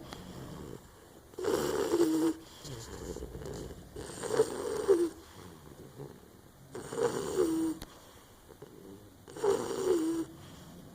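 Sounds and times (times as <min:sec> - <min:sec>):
soft breathing: 0:00.0 - 0:06.4, 0:07.4 - 0:09.2, 0:10.0 - 0:10.9
puppy snoring: 0:00.0 - 0:10.9.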